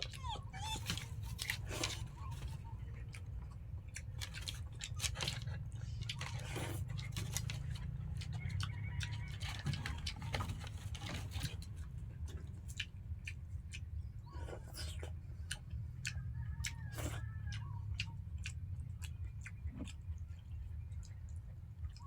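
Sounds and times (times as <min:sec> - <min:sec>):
person chewing wetly: 0:00.0 - 0:22.0
steady low hum: 0:00.0 - 0:22.0.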